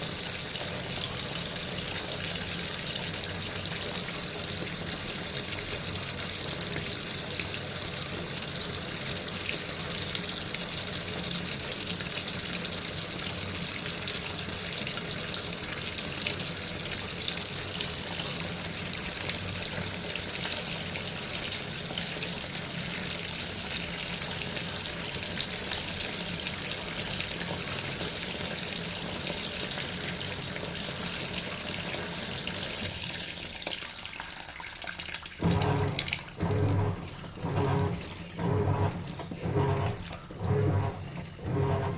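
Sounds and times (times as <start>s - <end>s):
water rushing in washing machine: 0.0s - 41.9s.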